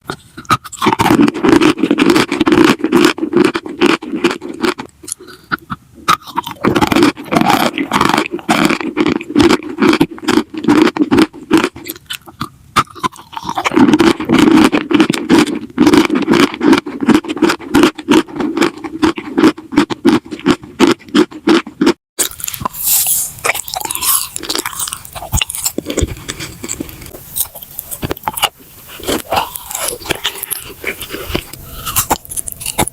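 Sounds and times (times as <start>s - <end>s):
crunching crackles: 0.0s - 32.9s.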